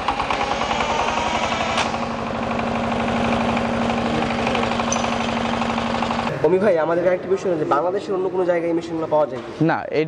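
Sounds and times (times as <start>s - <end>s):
diesel pump engine running: 0.0s - 9.1s.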